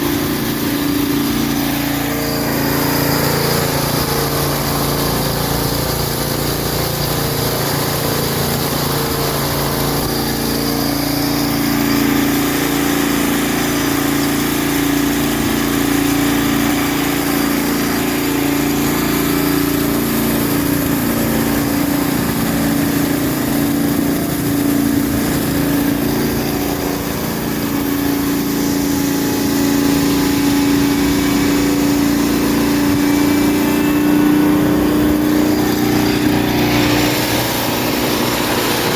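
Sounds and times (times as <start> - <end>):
engine-driven hammer mill running: 0.0 - 38.9.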